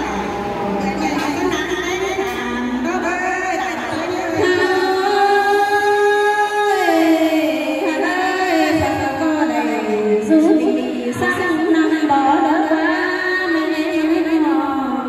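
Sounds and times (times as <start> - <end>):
woman singing through microphone: 0.0 - 15.0.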